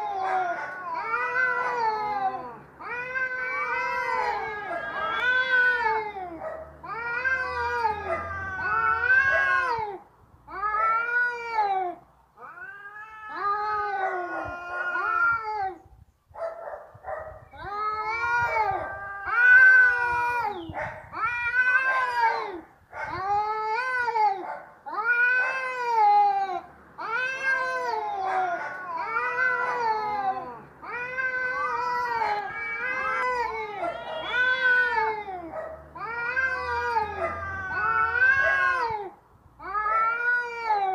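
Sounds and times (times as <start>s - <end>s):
cat yowling: 0.0s - 15.8s, 17.6s - 40.9s.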